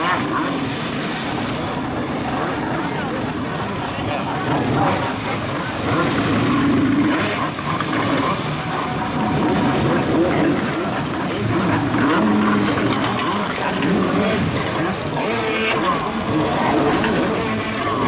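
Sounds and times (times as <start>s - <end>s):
churned water hissing: 0.0s - 18.0s
jet ski engines revving: 0.0s - 18.0s
second jet ski running: 0.0s - 18.0s.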